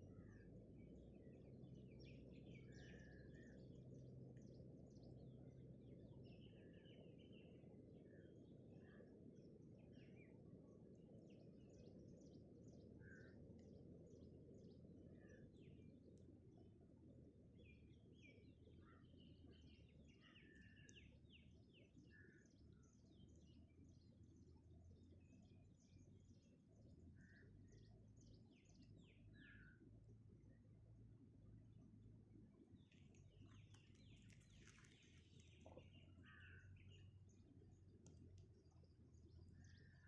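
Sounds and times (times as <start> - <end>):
low background rumble: 0.0 - 40.0.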